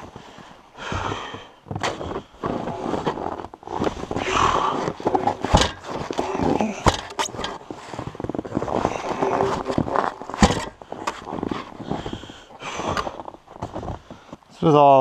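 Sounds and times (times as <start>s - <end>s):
boots crunching in snow: 0.0s - 6.9s, 7.5s - 14.5s
log scraping on metal sled: 0.8s - 14.2s.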